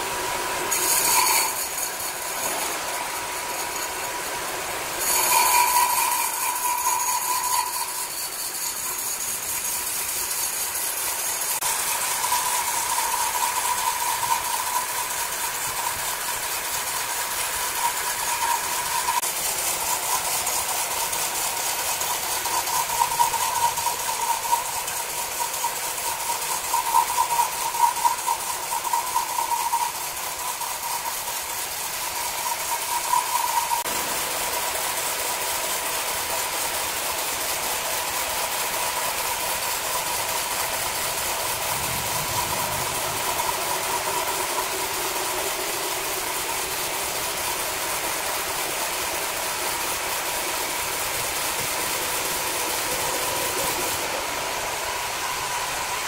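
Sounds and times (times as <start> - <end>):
band saw cutting timber: 0.0 - 56.0.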